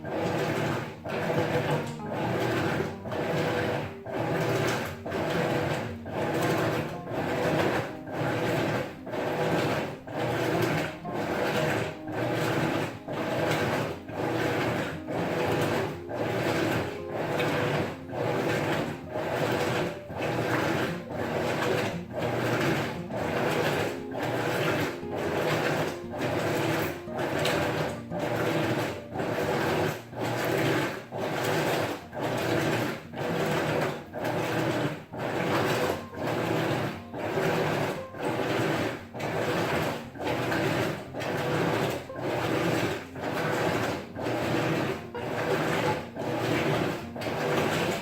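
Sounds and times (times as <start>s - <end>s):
washing machine agitator running: 0.0s - 48.0s.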